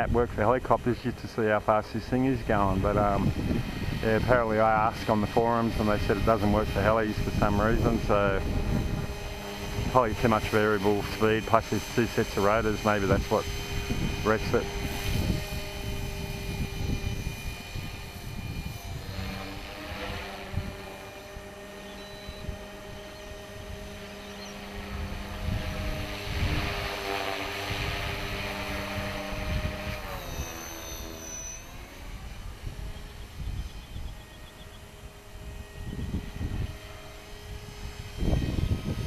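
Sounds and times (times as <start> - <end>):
wind buffeting microphone: 0.0 - 30.6, 31.7 - 39.0
helicopter motor and rotors whine: 0.0 - 39.0.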